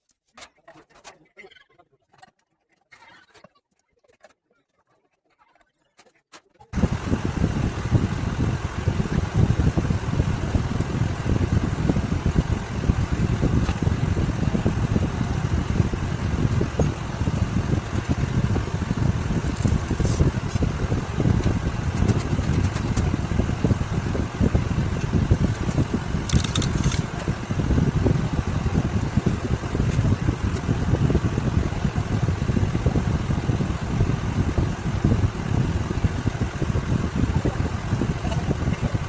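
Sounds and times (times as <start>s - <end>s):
ceiling fan running: 6.7s - 39.0s.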